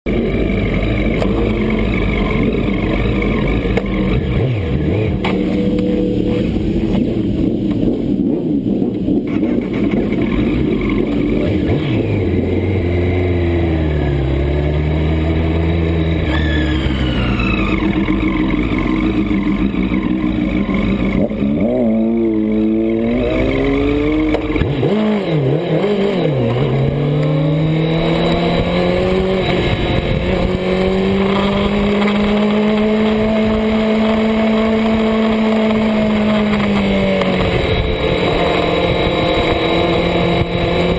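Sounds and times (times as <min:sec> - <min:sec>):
superbike engine at full throttle: 0:00.0 - 0:40.9.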